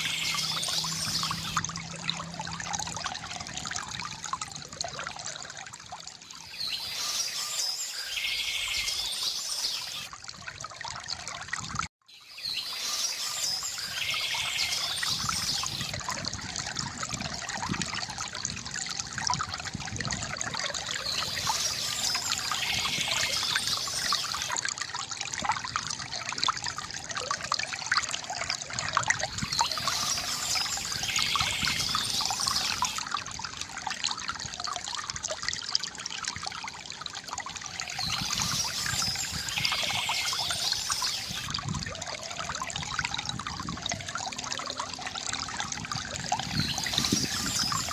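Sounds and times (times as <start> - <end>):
fountain water trickling: 0.0 - 47.9.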